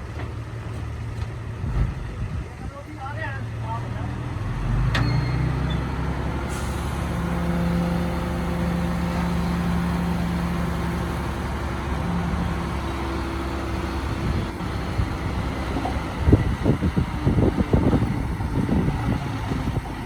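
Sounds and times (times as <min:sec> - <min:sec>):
bulldozer diesel engine rumbling: 0:00.0 - 0:20.0.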